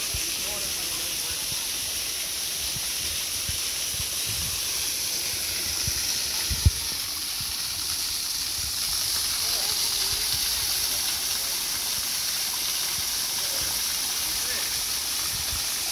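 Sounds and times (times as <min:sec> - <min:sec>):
running water rushing: 0:00.0 - 0:15.9.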